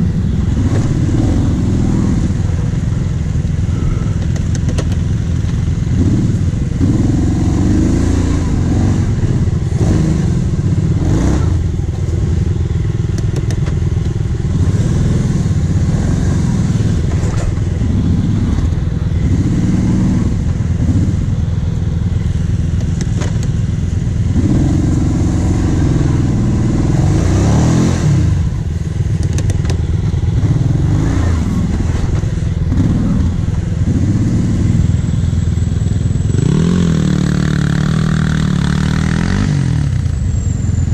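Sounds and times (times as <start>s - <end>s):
quad engine idling and revving: 0.0s - 40.9s.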